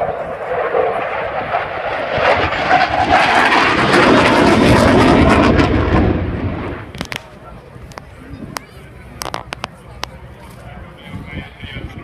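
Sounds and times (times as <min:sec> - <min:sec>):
aircraft flying overhead: 0:00.0 - 0:12.0.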